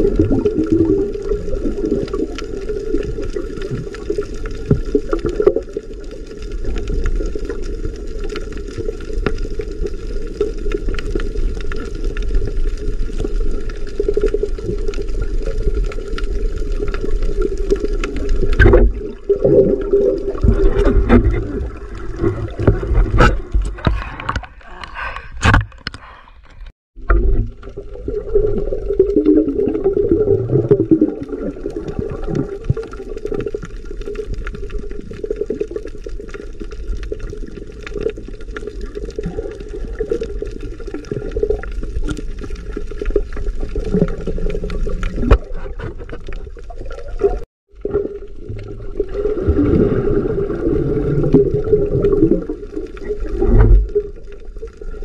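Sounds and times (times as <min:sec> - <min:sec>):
underwater rushing and bubbling: 0:00.0 - 0:55.0.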